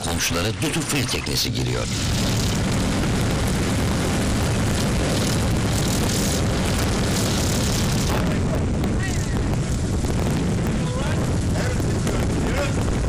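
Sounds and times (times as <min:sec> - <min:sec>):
boat engine drone: 0:00.0 - 0:13.0
water noise: 0:00.0 - 0:13.0
wind rushing: 0:00.6 - 0:13.0.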